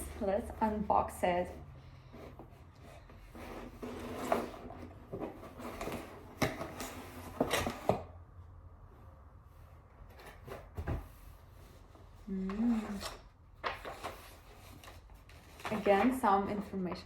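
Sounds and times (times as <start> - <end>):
packaging rustling and scraping: 0.0 - 8.2, 9.9 - 17.0.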